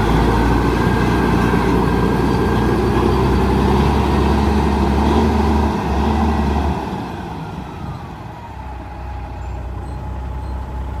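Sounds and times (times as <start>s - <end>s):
diesel truck engine: 0.0s - 11.0s.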